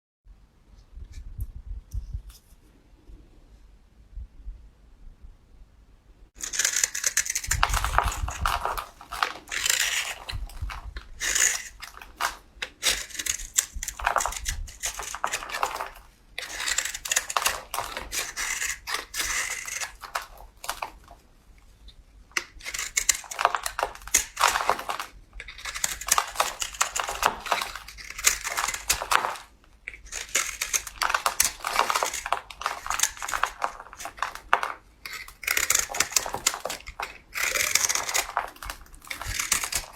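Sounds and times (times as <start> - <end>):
knife cutting through soap: 6.4 - 21.2, 21.8 - 39.9.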